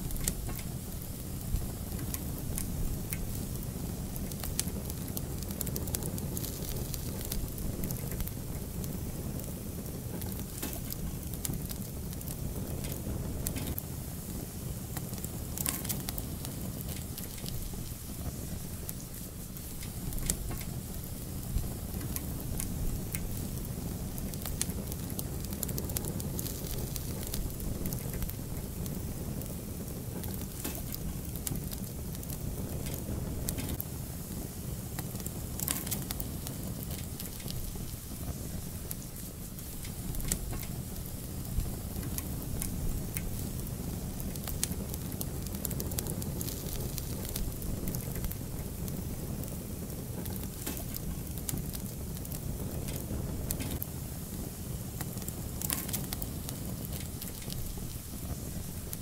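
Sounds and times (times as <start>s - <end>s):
fire burning with crackles and pops: 0.0s - 59.0s.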